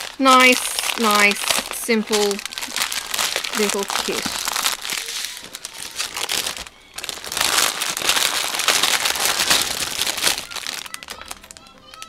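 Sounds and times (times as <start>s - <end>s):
plastic film crackling: 0.0s - 12.0s.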